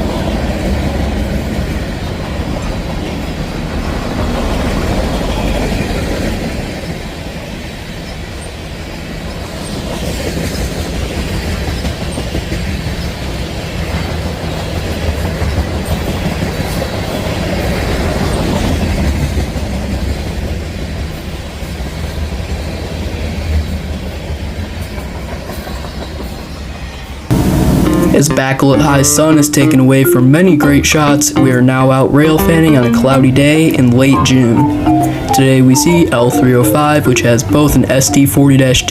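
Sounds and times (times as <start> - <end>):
freight train rumbling: 0.0 - 38.9.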